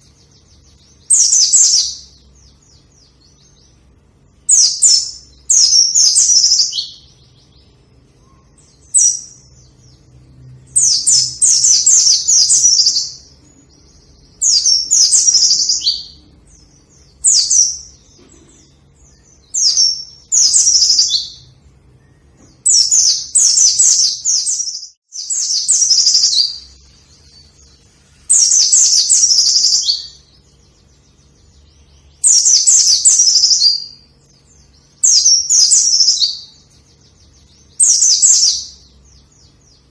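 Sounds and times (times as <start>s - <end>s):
white-eye chirping: 0.0s - 39.9s.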